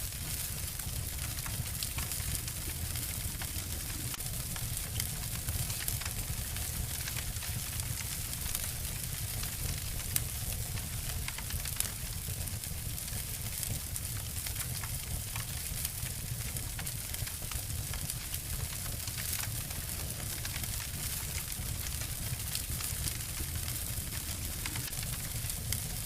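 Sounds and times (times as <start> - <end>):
wood fire crackling and snapping: 0.0 - 26.0.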